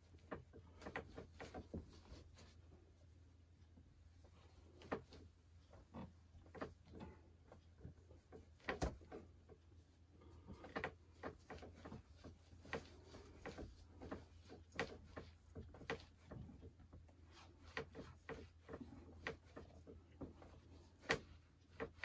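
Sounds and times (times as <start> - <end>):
low steady hum: 0.0 - 22.0
hand scratching and tapping model track: 3.7 - 22.0.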